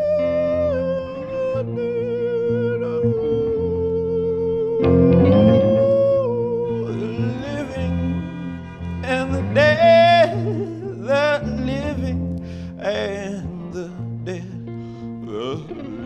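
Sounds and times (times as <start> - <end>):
electric guitar through amp: 0.0 - 16.0
man singing wordless notes: 0.0 - 16.0.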